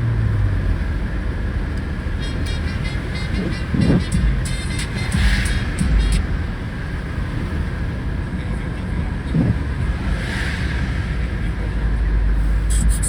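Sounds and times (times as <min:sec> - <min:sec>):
car road noise inside cabin: 0:00.0 - 0:13.0.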